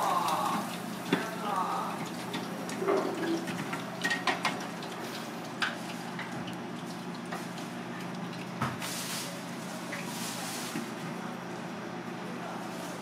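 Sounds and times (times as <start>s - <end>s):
frying oil sizzling: 0.0s - 11.0s.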